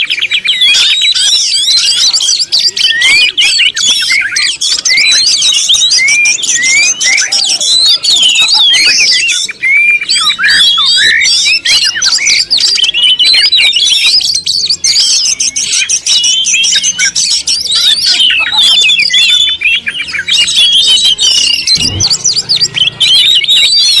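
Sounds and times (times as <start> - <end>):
birds chirping and squawking: 0.0 - 24.0.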